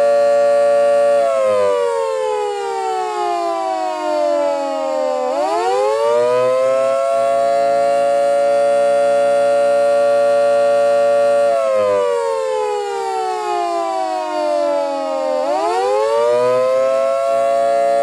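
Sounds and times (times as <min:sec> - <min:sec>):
civil defense sirens wailing: 0:00.0 - 0:18.0.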